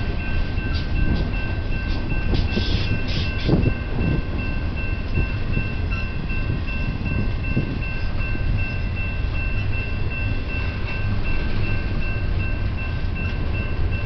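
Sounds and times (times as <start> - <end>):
crossing bell ringing: 0.0 - 14.0
train clanks and knocks: 0.0 - 14.0
train rumbling past: 0.0 - 14.0.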